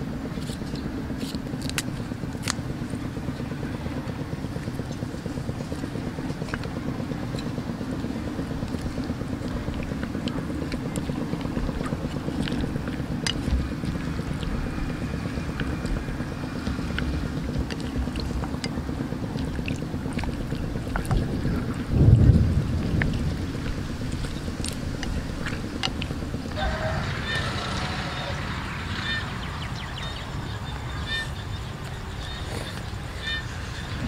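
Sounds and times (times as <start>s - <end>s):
low rumbling background noise: 0.0s - 34.0s.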